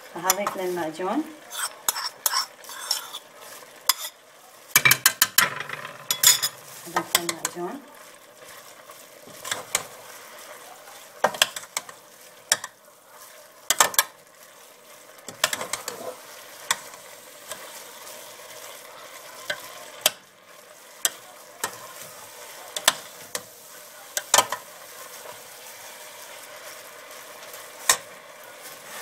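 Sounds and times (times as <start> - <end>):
meat sizzling in a pan: 0.0 - 29.0
spoon scraping a pan: 0.2 - 7.6, 8.4 - 10.6, 11.2 - 29.0.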